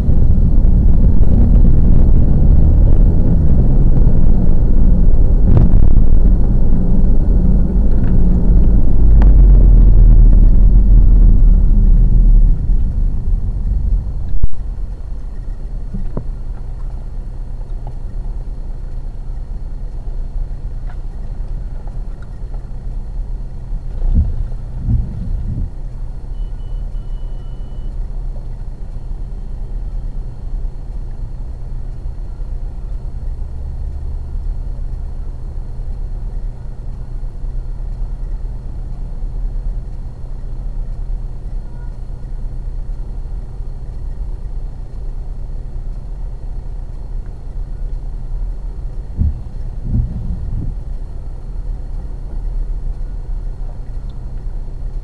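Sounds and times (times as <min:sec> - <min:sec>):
car engine and road rumble: 0:00.0 - 0:55.0
car engine idle hum: 0:00.0 - 0:55.0.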